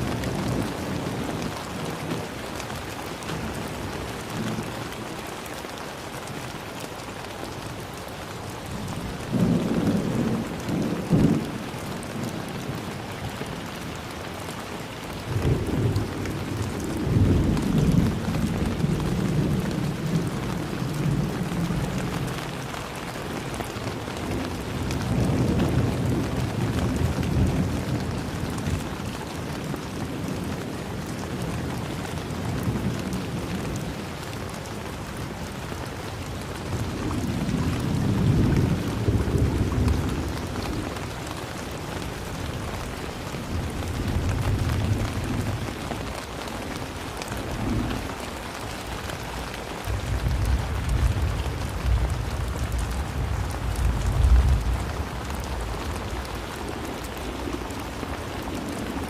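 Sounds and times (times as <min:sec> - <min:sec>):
steady rain falling: 0:00.0 - 0:59.0
thunder rumbling: 0:08.6 - 0:13.6, 0:14.4 - 0:35.5, 0:36.3 - 0:59.0.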